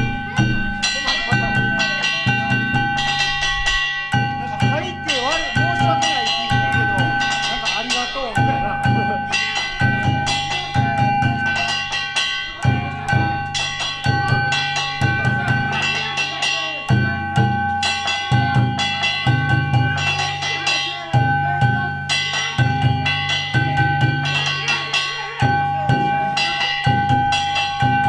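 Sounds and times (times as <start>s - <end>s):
metal hand gongs ringing: 0.0s - 28.0s
taiko drums beating: 0.0s - 28.0s.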